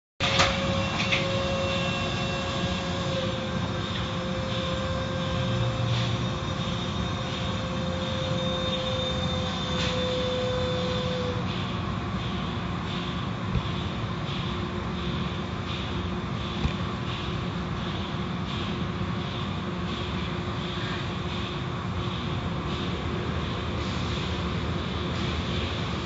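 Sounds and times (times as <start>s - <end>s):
constant machine whine: 0.2s - 26.0s.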